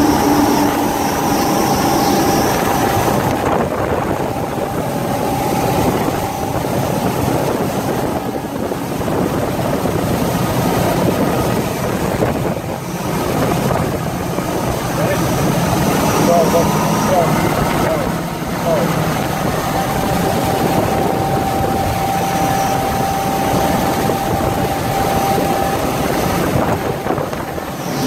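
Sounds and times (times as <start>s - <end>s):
boat engine drone: 0.0s - 28.0s
rushing water: 0.0s - 28.0s
wind noise: 0.0s - 28.0s.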